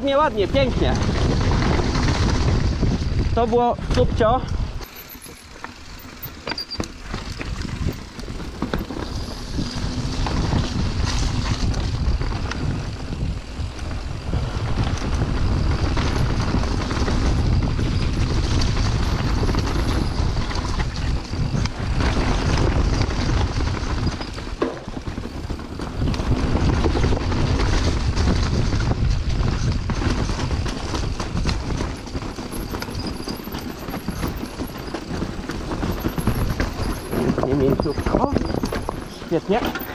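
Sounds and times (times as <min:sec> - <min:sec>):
bike knocking and rattling: 0:00.0 - 0:39.9
bike tyres rumbling over dirt: 0:00.0 - 0:39.9
wind buffeting microphone: 0:00.0 - 0:39.9.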